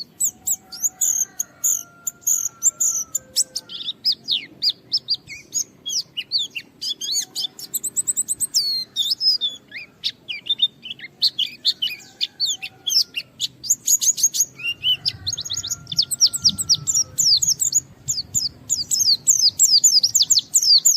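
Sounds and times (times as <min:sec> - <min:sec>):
bird singing high chirps and trills: 0:00.0 - 0:20.9.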